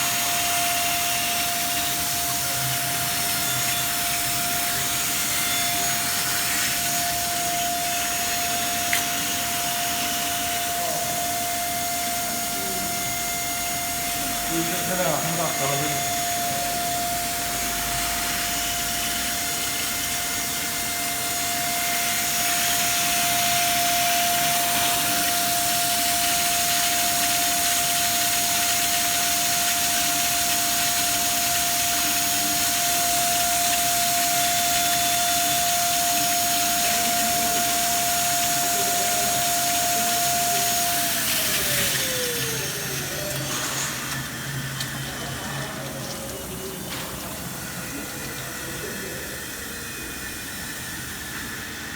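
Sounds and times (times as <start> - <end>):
electric motor whine: 0.0 - 51.9.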